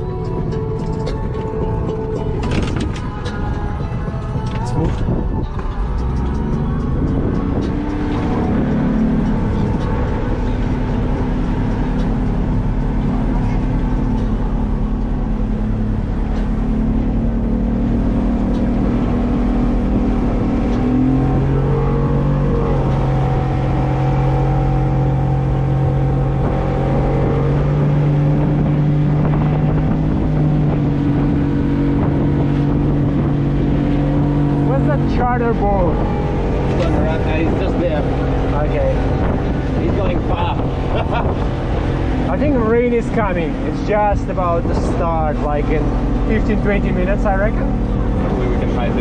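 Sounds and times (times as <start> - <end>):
outboard motor running: 0.0 - 49.0.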